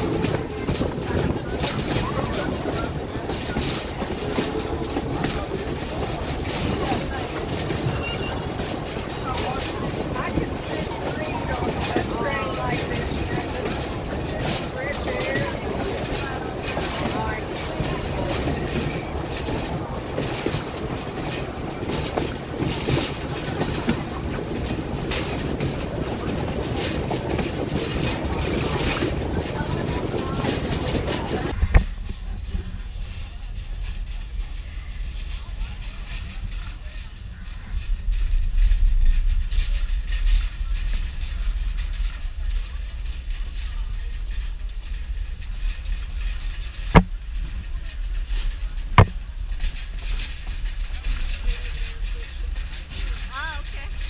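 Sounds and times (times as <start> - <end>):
train rumble and rushing: 0.0 - 54.0
train wheels clacking: 0.0 - 54.0.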